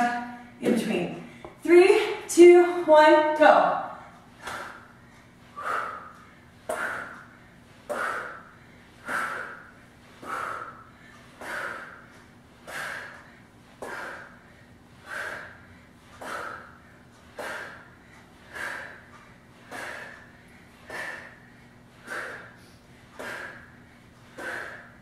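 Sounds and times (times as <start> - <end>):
woman breathing hard: 4.0 - 25.0.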